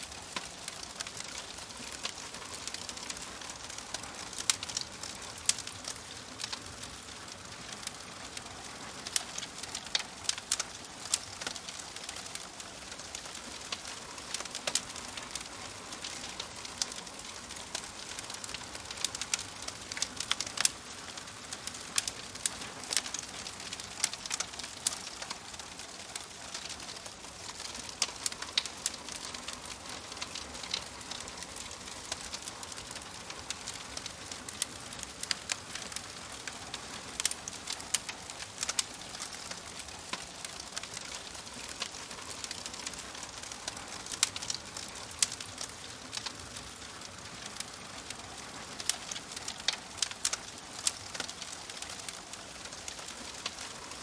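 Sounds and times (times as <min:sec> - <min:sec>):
soft fire hiss: 0:00.0 - 0:54.0
wood fire crackling: 0:00.0 - 0:54.0.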